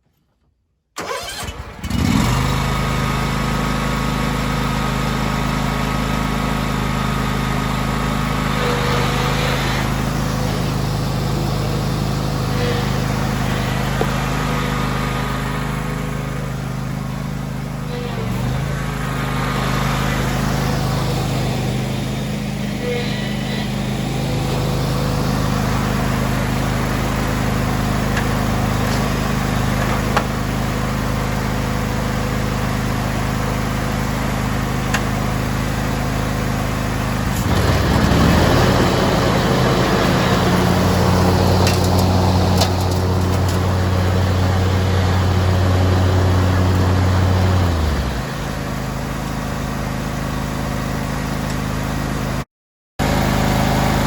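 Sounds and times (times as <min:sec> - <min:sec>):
lawn tractor engine running: 0:01.0 - 0:52.4, 0:53.0 - 0:54.0.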